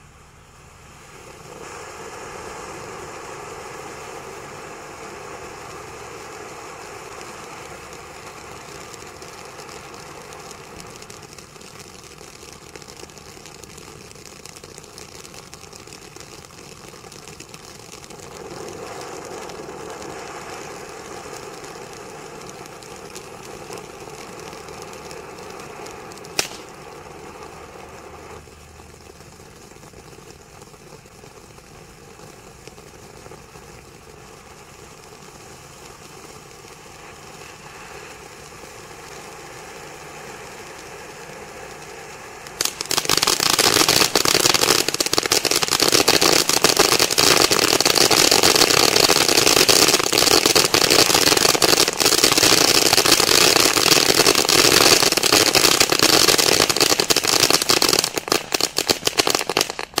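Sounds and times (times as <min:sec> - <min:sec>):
firework crackling and popping: 0:00.0 - 1:00.0
firework fountain hissing: 0:00.0 - 1:00.0.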